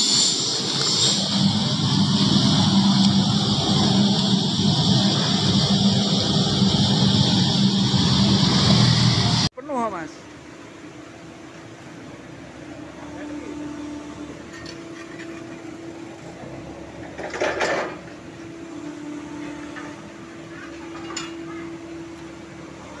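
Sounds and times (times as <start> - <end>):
factory machine hum: 0.0 - 23.0.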